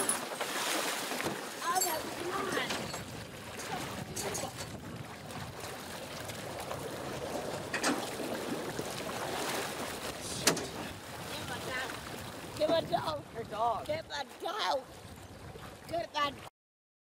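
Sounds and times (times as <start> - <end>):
water splashing and sloshing: 0.0 - 16.5.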